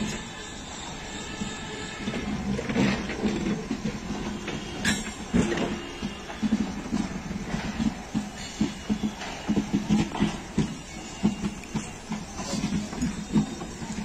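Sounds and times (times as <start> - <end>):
train wheels knocking on rails: 0.0 - 14.0.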